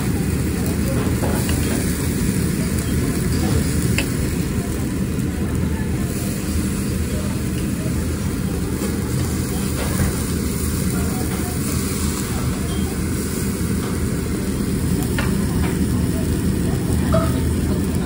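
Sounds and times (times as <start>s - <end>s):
restaurant room noise rumble: 0.0s - 18.0s.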